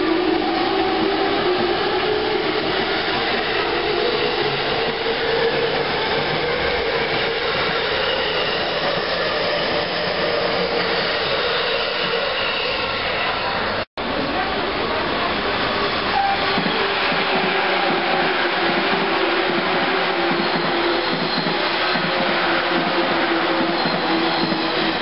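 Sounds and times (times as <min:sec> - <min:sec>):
train wheels on rails: 0:00.1 - 0:25.0.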